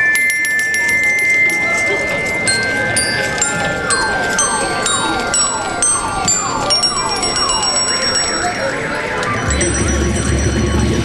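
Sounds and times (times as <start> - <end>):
bell lyres playing melody: 0.0 - 11.0
held high tone: 0.0 - 11.0.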